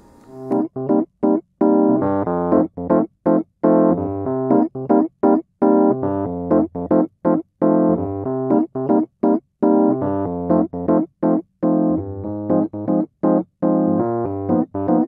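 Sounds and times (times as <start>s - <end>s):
keyboard playing clipped chords: 0.3s - 15.0s.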